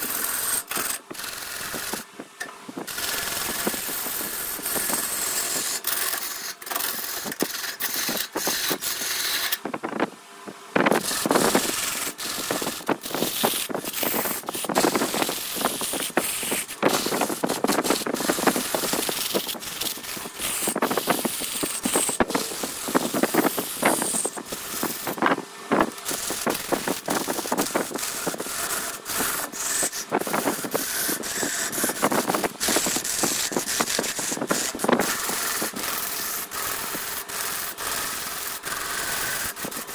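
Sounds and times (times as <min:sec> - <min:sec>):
tool scraping wood on a lathe: 0:00.0 - 0:02.1, 0:02.8 - 0:09.7, 0:10.8 - 0:39.9.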